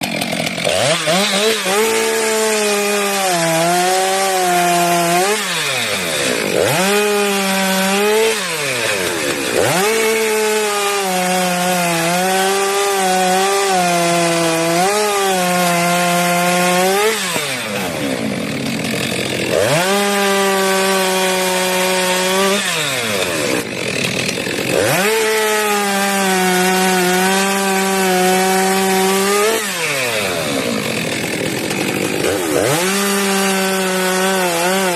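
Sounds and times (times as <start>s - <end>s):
chainsaw cutting tree trunk: 0.0s - 34.9s.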